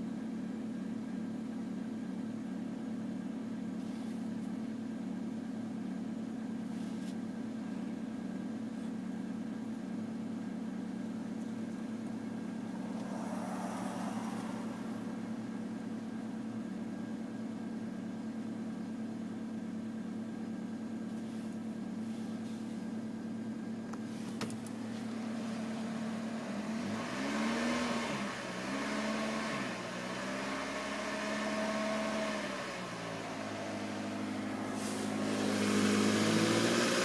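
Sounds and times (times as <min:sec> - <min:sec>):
car engine idling and revving: 0:00.0 - 0:37.0
engine vibration sound: 0:00.0 - 0:37.0.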